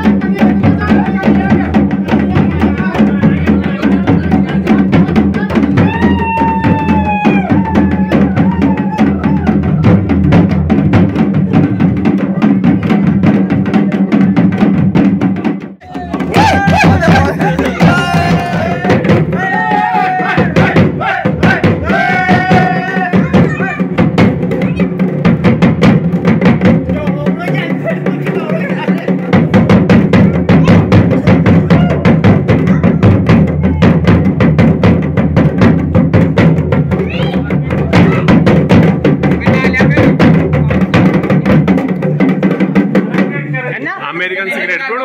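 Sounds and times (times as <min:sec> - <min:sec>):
dhol drumming: 0:00.0 - 0:45.0.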